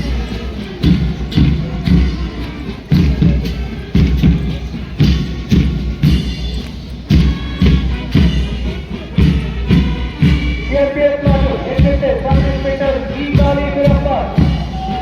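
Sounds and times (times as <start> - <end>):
music with heavy steady beat: 0.0 - 15.0.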